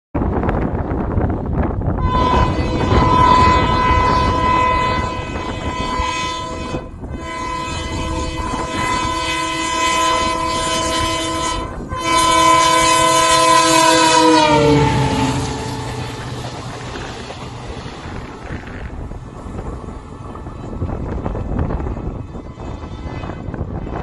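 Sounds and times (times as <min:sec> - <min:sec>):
train running noise: 0:00.2 - 0:24.0
locomotive horn blasts: 0:02.0 - 0:24.0.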